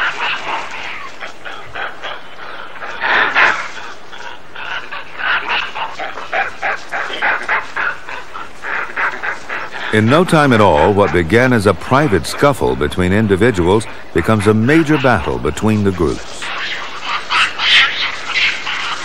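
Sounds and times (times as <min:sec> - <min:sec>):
monkeys calling: 0:00.0 - 0:19.0.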